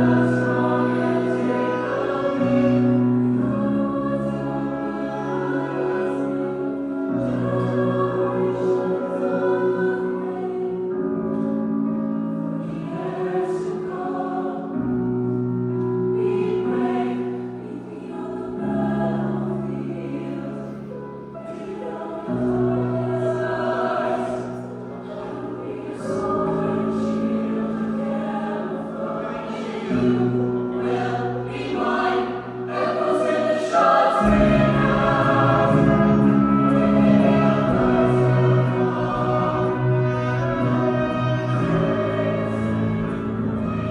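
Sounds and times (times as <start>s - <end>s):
choir singing held chords: 0.0s - 43.9s
music: 0.0s - 43.9s.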